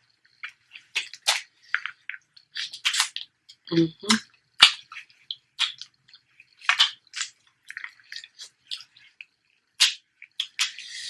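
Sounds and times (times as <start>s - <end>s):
person chewing with mouth smacks: 0.2s - 11.0s.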